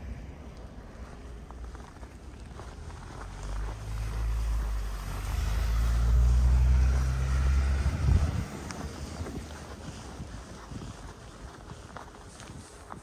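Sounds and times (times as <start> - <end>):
vehicle driving past: 0.0 - 10.6.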